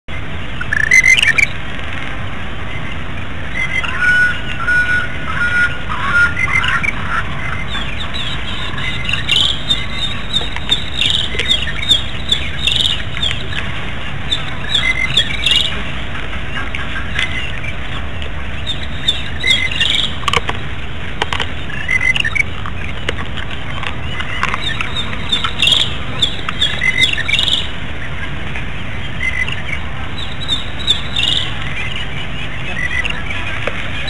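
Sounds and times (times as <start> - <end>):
birds calling: 0.1 - 34.0.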